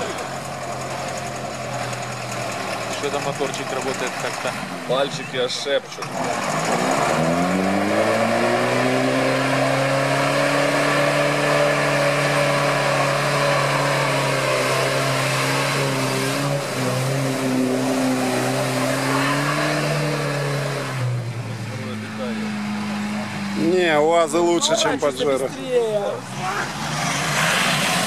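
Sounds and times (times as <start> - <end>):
engine revving under load: 0.0 - 25.4, 26.2 - 28.0.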